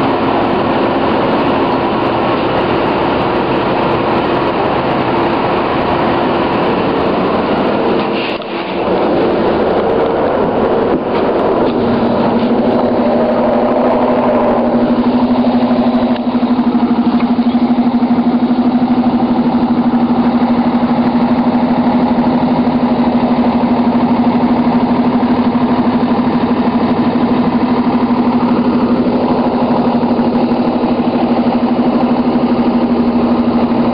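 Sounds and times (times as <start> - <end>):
bus diesel engine running: 0.0 - 33.9
steady drone: 0.0 - 33.9.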